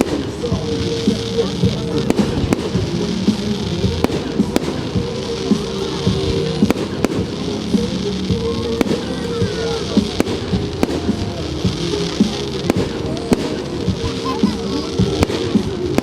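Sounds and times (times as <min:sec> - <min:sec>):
fireworks banging: 0:00.0 - 0:16.0
music: 0:00.0 - 0:16.0.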